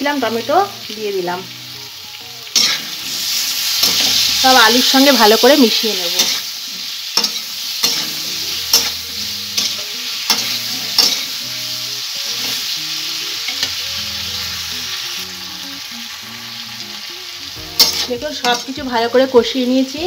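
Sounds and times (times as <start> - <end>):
potatoes sizzling in oil: 0.0 - 20.0.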